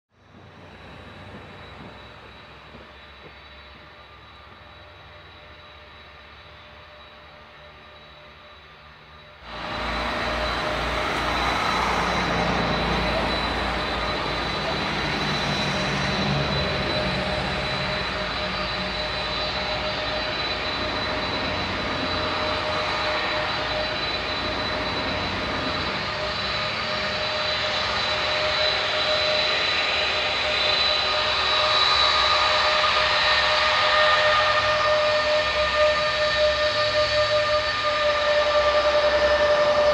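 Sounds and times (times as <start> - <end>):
jet engine roar: 0.2 - 39.9
jet engines whining: 0.2 - 39.9.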